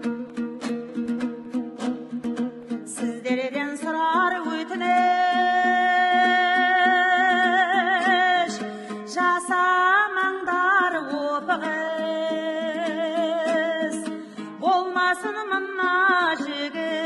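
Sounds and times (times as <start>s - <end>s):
plucked strings: 0.0s - 17.0s
woman singing: 0.0s - 17.0s.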